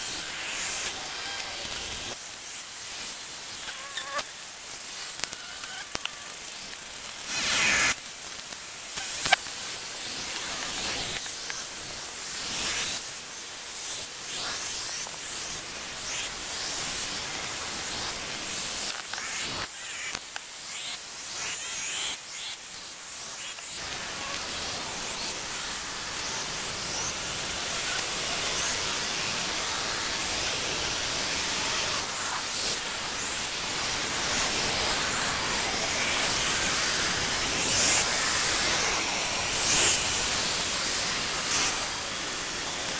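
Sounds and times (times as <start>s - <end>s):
insects ticking and fluttering: 0.0s - 42.9s
steady outdoor hiss: 0.0s - 42.9s.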